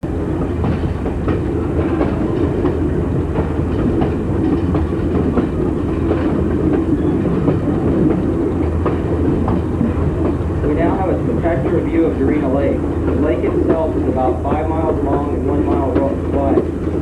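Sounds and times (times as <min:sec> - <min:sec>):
railroad car rumbling: 0:00.0 - 0:17.0
wheels clacking over rail joints: 0:00.3 - 0:17.0.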